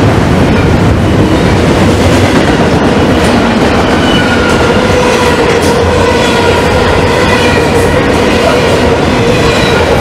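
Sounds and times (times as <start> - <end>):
train wheels rumbling with clickety-clack: 0.0 - 10.0.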